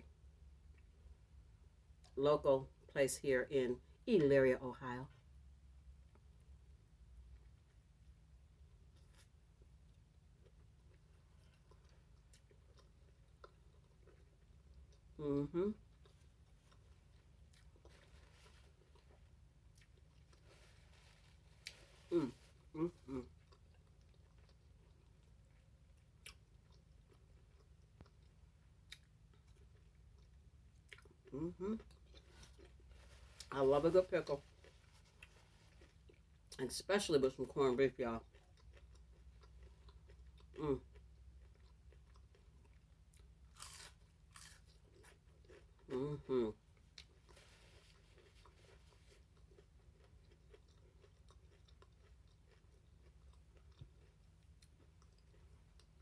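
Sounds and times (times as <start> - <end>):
faint chewing of food: 0.0 - 2.2, 5.1 - 56.0
low steady hum: 0.0 - 56.0.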